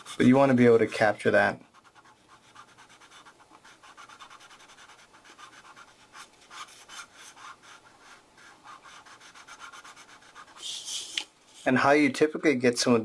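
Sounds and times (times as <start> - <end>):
marker scratching on paper: 0.0 - 11.7.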